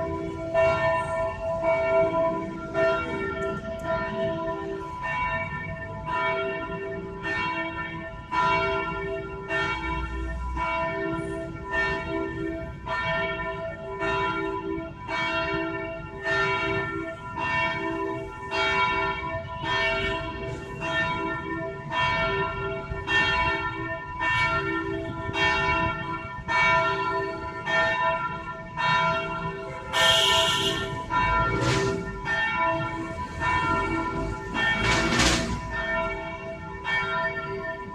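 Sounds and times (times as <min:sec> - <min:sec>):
church bell ringing: 0:00.0 - 0:37.9.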